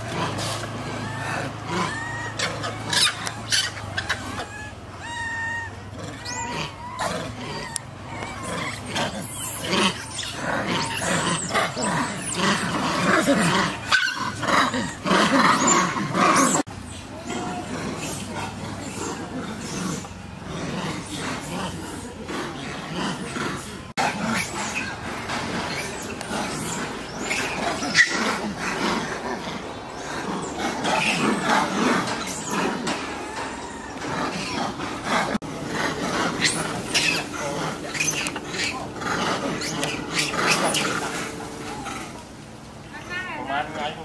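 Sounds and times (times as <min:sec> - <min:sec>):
macaques calling: 0:00.0 - 0:44.0.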